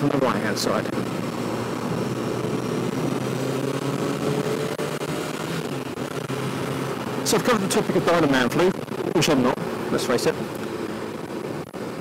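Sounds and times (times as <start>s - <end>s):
motorcycle engine running: 0.0s - 12.0s
wind rush: 0.4s - 12.0s.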